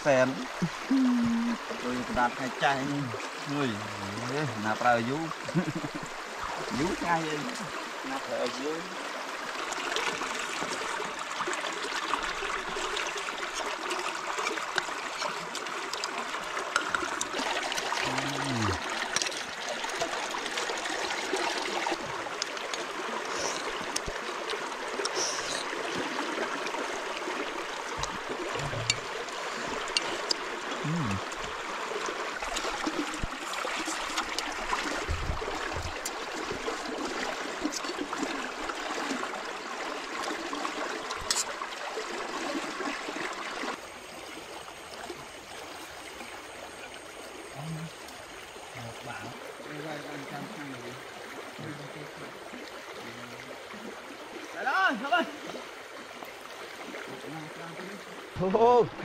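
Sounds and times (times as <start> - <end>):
water flowing and trickling: 0.0 - 59.0.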